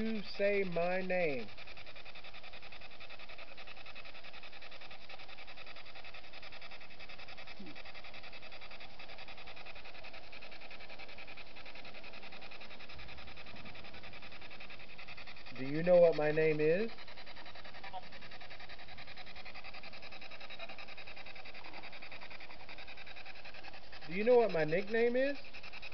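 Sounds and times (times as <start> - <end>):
chopped radio static hiss: 0.0 - 25.9.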